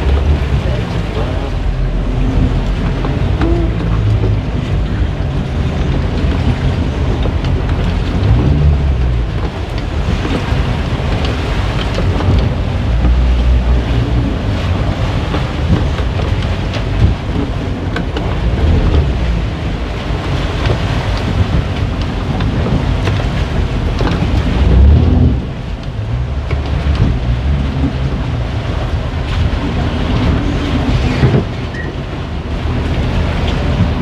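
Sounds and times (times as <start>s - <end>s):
motorboat engine running: 0.0s - 34.0s
water churning along hull: 0.0s - 34.0s
wind buffeting microphone: 0.0s - 34.0s.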